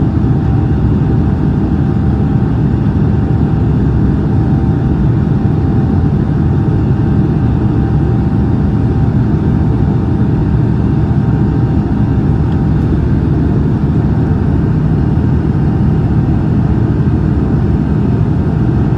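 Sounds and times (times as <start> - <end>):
aircraft engines rumbling: 0.0 - 18.9.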